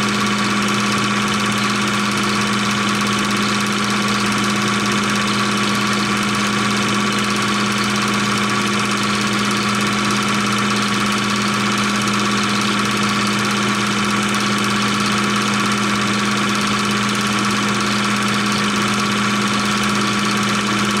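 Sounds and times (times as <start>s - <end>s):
film projector whirring: 0.0s - 21.0s.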